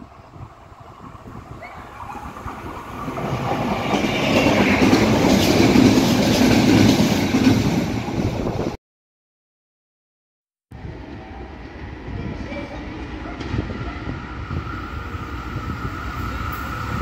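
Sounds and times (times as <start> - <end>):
train passing at speed: 0.0 - 8.8, 10.7 - 17.0.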